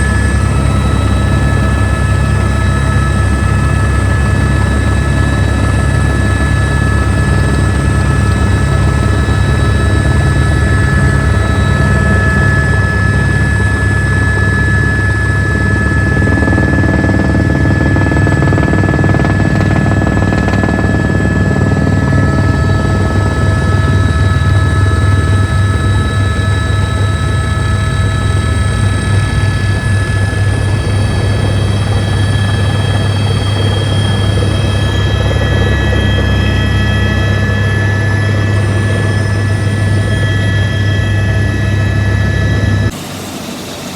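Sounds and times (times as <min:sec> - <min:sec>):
helicopter rotor beat: 0:00.0 - 0:43.9
turbine whine: 0:00.0 - 0:43.9.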